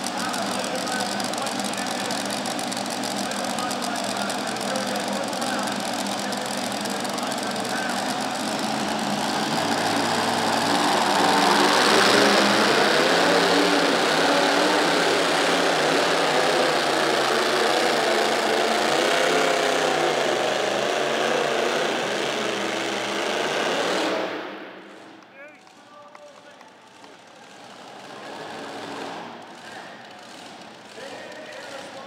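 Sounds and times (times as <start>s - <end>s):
tractor engine at high revs: 0.0s - 25.7s, 26.4s - 32.0s.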